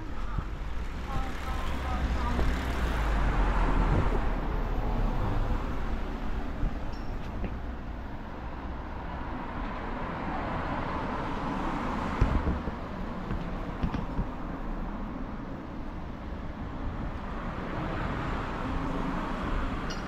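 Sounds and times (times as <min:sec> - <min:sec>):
traffic background hum: 0:00.0 - 0:20.0.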